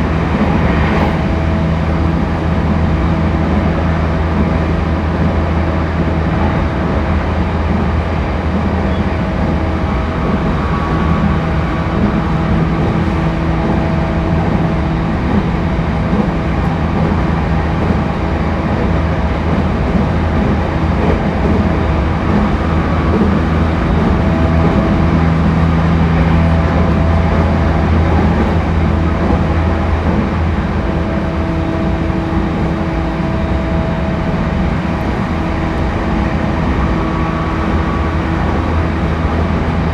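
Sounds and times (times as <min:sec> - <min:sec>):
electric train hum tones: 0:00.0 - 0:39.9
train wheels rumbling on rail: 0:00.0 - 0:39.9.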